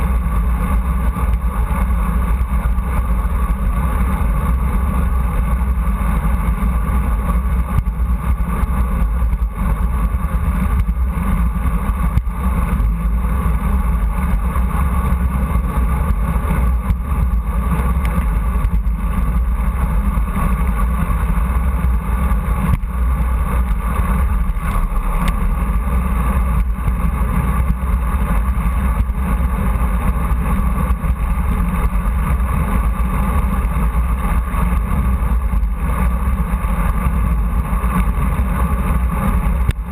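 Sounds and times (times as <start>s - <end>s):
road rumble: 0.0s - 39.9s.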